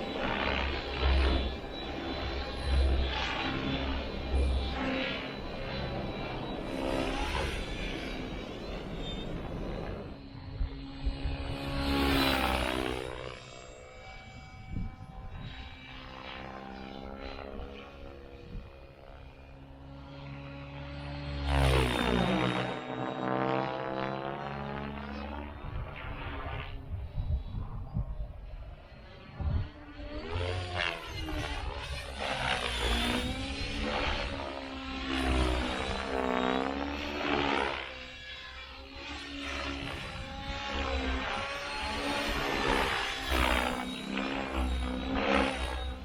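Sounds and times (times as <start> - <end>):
rc helicopter whine: 0.0 - 46.0.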